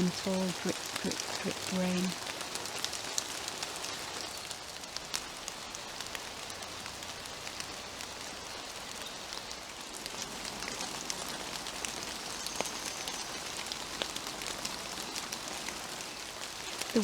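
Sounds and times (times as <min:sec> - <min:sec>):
drips ticking on leaves: 0:00.0 - 0:17.0
gentle rain hiss: 0:00.0 - 0:17.0.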